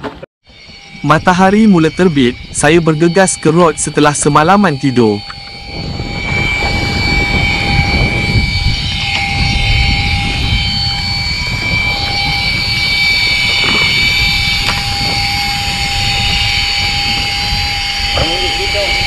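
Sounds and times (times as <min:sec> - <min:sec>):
boat motor drone with whine: 0:00.0 - 0:19.0.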